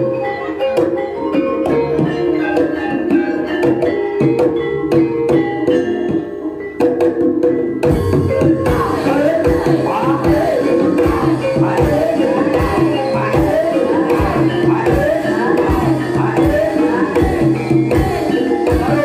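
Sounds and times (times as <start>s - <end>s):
gamelan keyed instruments: 0.0s - 19.0s
hand drum patterns: 0.0s - 19.0s.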